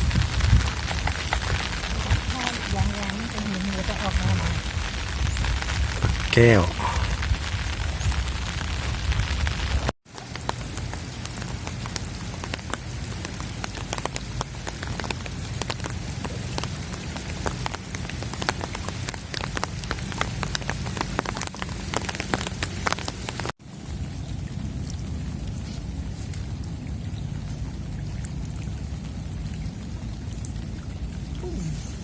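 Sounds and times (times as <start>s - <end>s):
low wind rumble: 0.0s - 32.0s
rain drops pattering: 0.0s - 32.0s.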